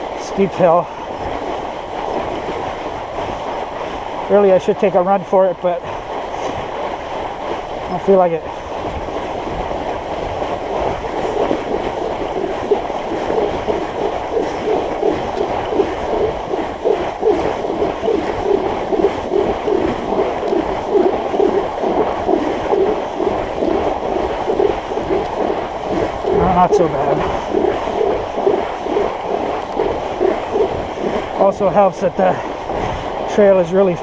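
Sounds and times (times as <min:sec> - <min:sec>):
rhythmic pulse: 0:00.0 - 0:34.0.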